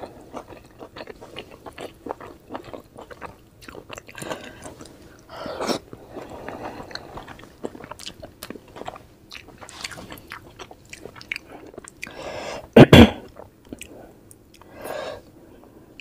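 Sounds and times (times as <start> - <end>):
chewing soft food: 0.0 - 12.3, 13.2 - 14.8.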